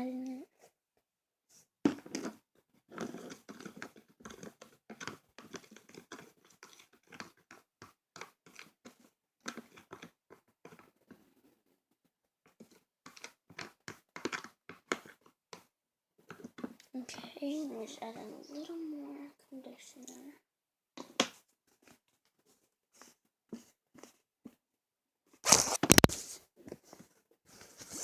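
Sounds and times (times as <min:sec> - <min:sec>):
crinkling and scraping in a bowl: 0:01.5 - 0:11.7, 0:12.5 - 0:18.8, 0:21.0 - 0:24.6, 0:25.5 - 0:28.0.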